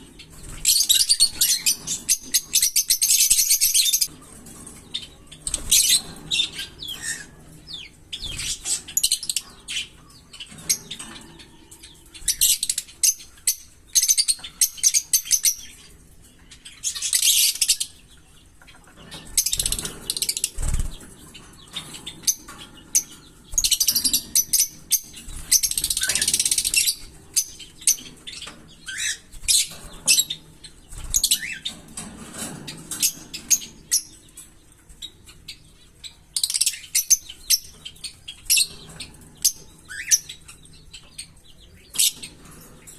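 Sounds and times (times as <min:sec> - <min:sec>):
parrots chirping and chattering: 0:00.0 - 0:42.9.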